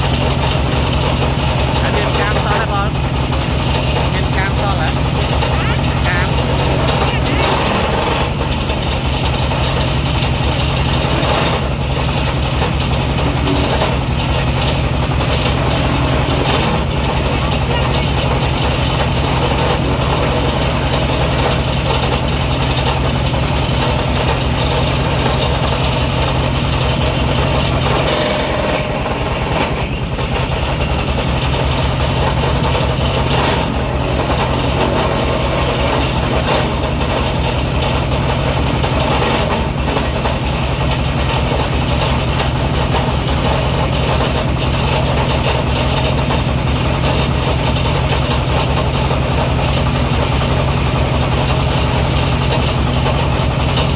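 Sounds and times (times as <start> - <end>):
diesel engine running: 0.0 - 53.9
wood crusher grinding: 0.0 - 53.9.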